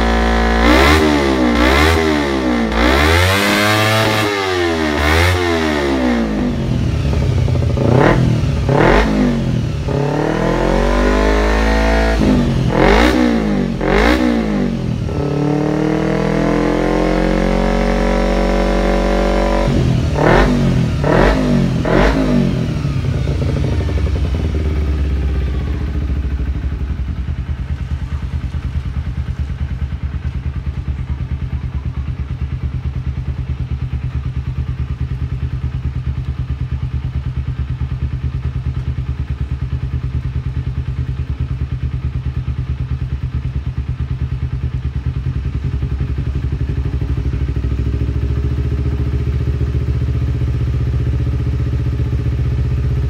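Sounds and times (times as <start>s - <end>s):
motorcycle engine idling: 0.0s - 53.0s.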